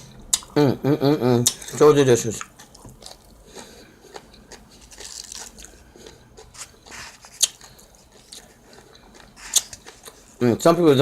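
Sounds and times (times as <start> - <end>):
chewing and crunching food: 1.4 - 10.4.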